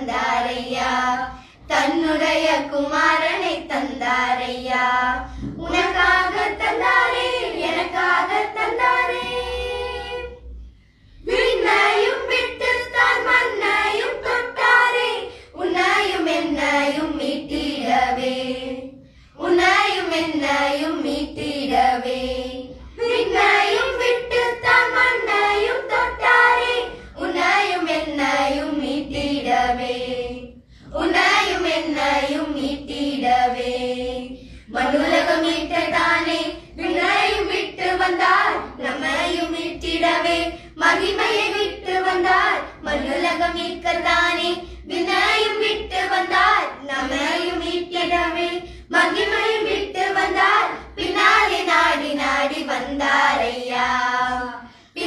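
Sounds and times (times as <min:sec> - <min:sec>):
girls singing in unison: 0:00.0 - 0:55.0.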